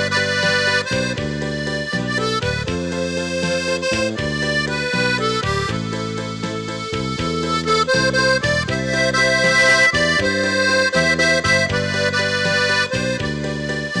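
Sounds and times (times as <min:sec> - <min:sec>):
instrumental music with held chords: 0:00.0 - 0:14.0.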